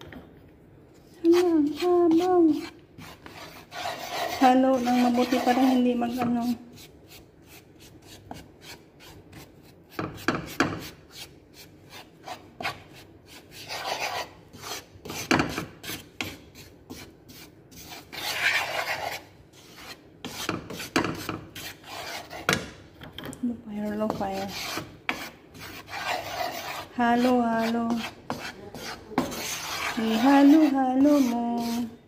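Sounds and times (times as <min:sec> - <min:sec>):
wooden spoon scraping pan: 0:01.0 - 0:22.6, 0:23.8 - 0:32.0.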